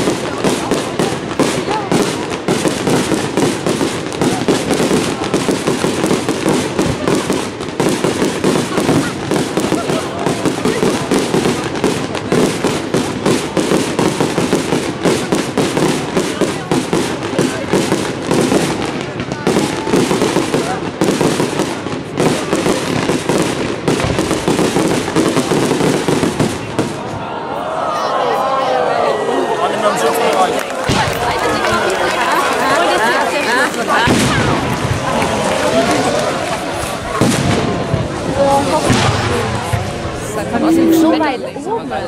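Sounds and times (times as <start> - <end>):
fireworks bursting: 0.0 - 27.2, 30.6 - 42.0.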